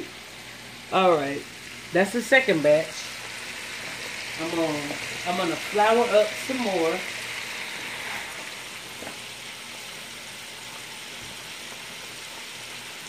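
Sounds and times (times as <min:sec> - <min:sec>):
chicken wings deep-frying in oil: 0:00.0 - 0:13.0.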